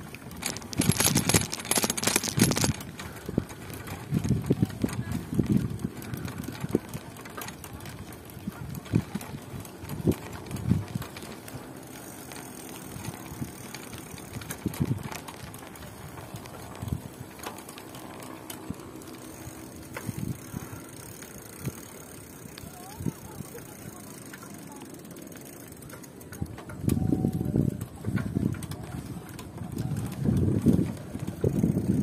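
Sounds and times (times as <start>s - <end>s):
bicycle knocking and rattling: 0.0s - 32.0s
steady background noise: 0.0s - 32.0s.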